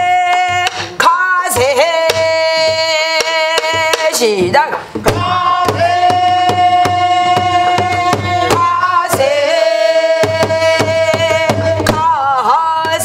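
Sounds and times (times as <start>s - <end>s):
person singing folk song: 0.0s - 13.0s
stick striking barrel drum: 0.0s - 13.0s.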